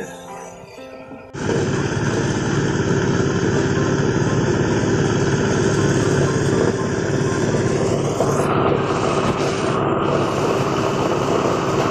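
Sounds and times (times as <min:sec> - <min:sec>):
corn sheller machine running: 0:01.4 - 0:11.9.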